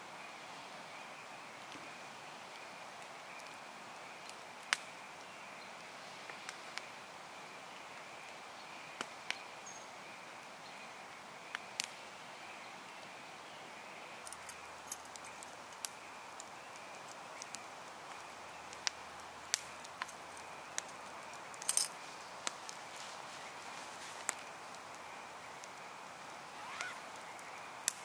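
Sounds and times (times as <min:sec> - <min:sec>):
quiet outdoor hiss: 0:00.0 - 0:28.0.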